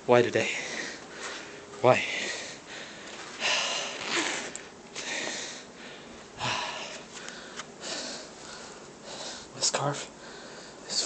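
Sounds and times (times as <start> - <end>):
man breathing and sniffing: 0.4 - 9.6.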